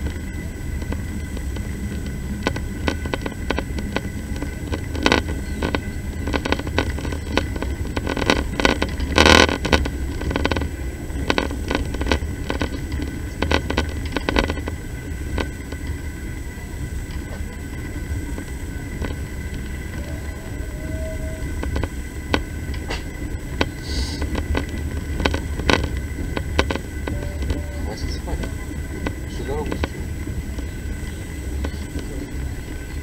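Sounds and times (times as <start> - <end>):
train rumbling: 0.0 - 33.0
wheels and carriage rattling: 0.0 - 33.0.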